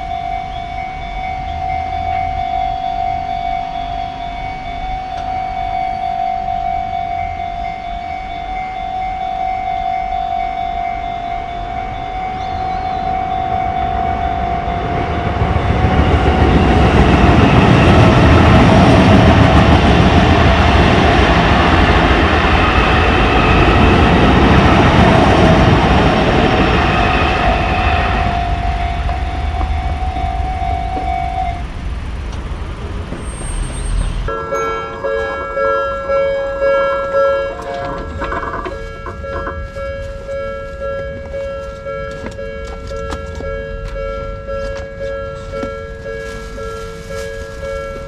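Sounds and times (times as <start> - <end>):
crossing warning bell ringing: 0.0 - 48.0
train rumbling past: 0.0 - 48.0.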